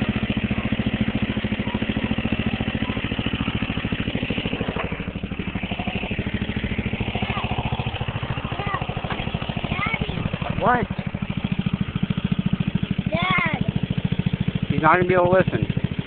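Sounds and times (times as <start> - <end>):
lawn mower engine pulsing under load: 0.0 - 16.0.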